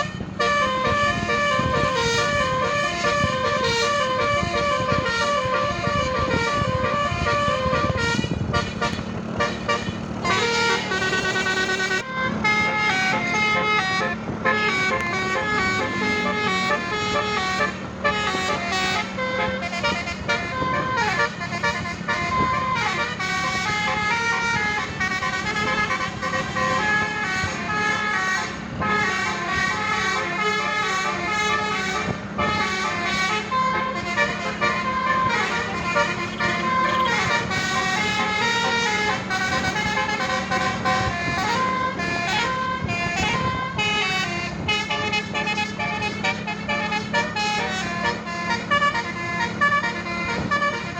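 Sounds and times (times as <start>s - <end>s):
multi-tone bus horn melody: 0.0s - 50.9s.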